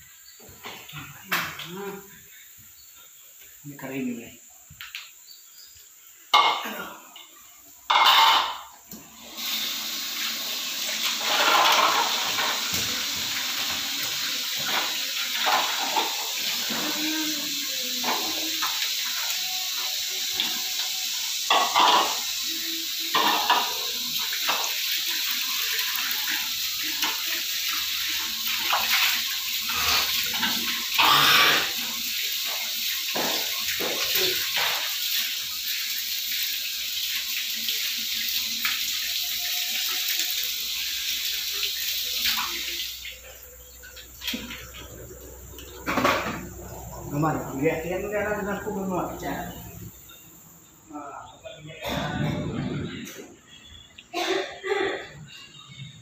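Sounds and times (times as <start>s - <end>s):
water running into buckets: 0.0s - 55.1s.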